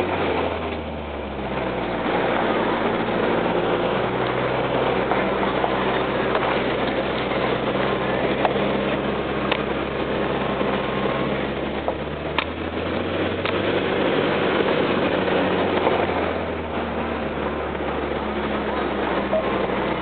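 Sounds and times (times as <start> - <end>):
truck engine hum: 0.0 - 20.0
tyre and road noise: 0.0 - 20.0.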